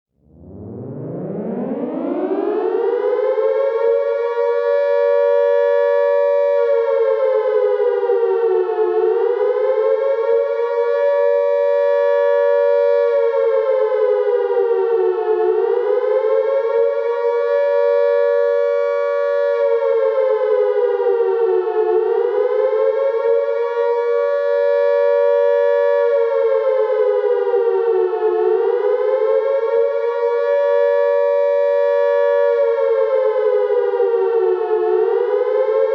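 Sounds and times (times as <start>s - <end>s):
air raid siren wailing: 0.2s - 35.9s.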